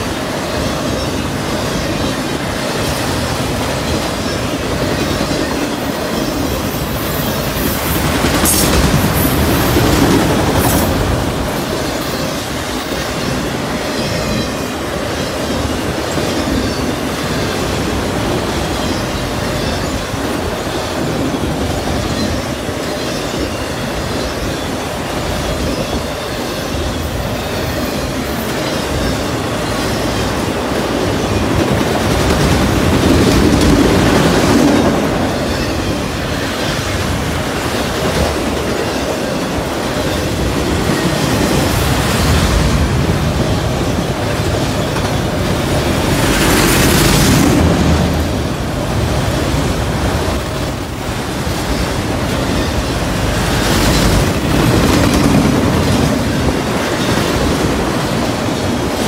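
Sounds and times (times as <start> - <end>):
freight train wheels clattering on rails: 0.0 - 59.0.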